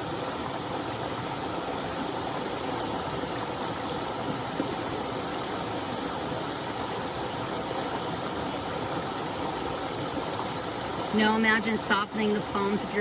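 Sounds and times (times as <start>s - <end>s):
small waterfall pouring: 0.0s - 13.0s.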